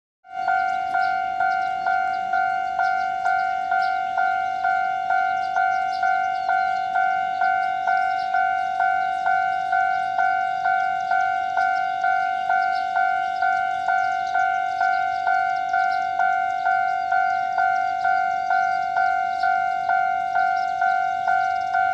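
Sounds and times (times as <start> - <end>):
level crossing warning bell ringing: 0.2 - 21.9.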